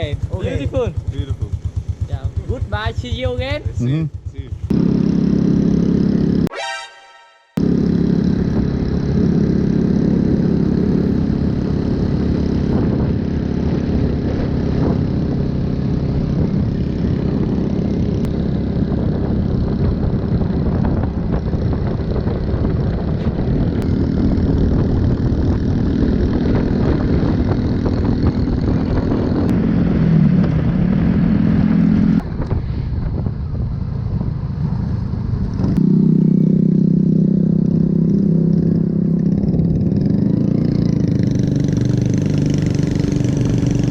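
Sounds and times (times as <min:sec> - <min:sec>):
motorbike engine running: 0:00.0 - 0:06.5, 0:07.6 - 0:43.9
wind and road noise: 0:00.0 - 0:06.5, 0:07.6 - 0:43.9.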